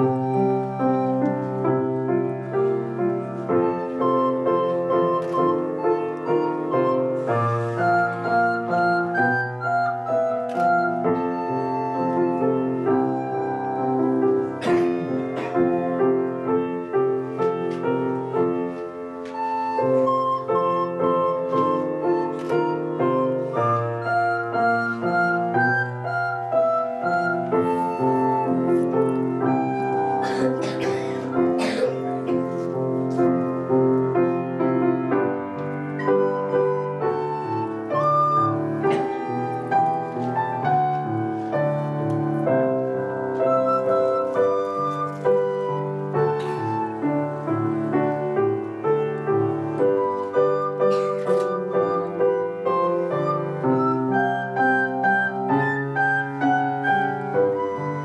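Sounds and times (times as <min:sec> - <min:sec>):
piano accompaniment: 0:00.0 - 0:58.0
recorder melody: 0:00.0 - 0:58.0.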